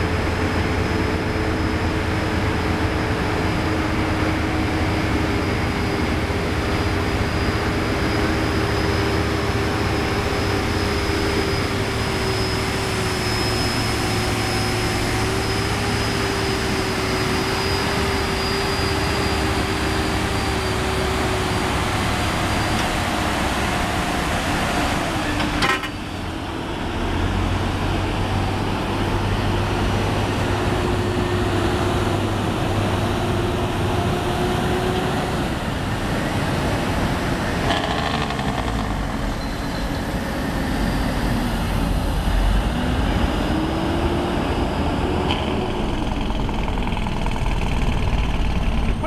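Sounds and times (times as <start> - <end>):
truck diesel engines rumbling: 0.0 - 49.0.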